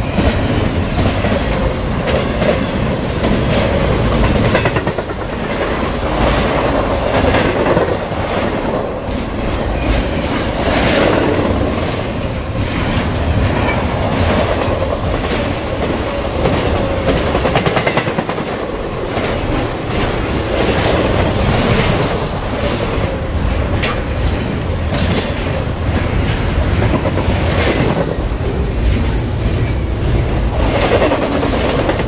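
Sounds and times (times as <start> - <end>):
freight train rumbling past: 0.0 - 32.0
wheels clicking over rail joints: 0.1 - 22.0, 22.6 - 32.0.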